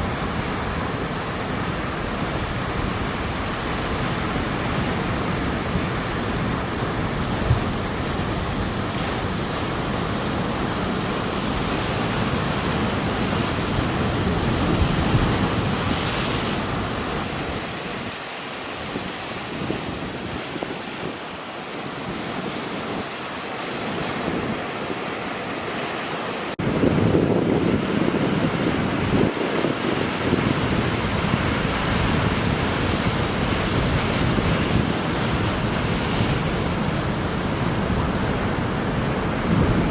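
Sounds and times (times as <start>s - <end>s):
wind buffeting microphone: 0.0s - 25.8s, 26.6s - 39.9s
ocean surf washing: 0.0s - 39.9s.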